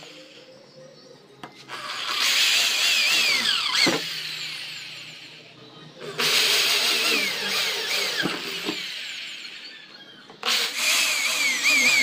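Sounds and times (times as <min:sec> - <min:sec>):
electric drill whining: 0:01.5 - 0:12.0.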